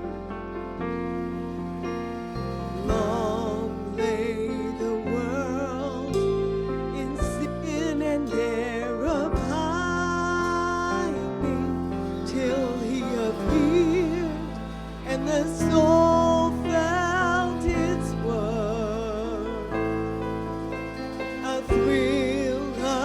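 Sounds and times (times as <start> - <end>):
slow tender medley music: 0.0 - 23.0.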